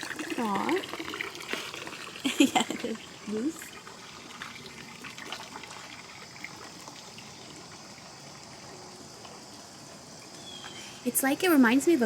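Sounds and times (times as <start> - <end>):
water trickling in a pond: 0.0 - 12.0.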